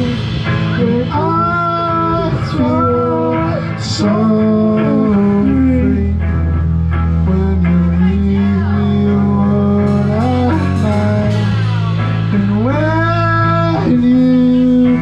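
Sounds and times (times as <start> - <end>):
guitar: 0.0 - 15.0
sustained low bass note: 0.0 - 15.0.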